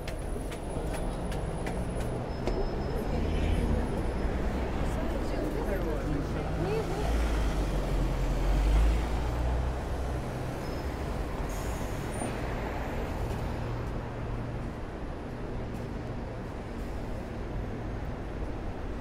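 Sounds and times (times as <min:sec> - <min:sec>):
steady traffic noise: 0:00.0 - 0:19.0.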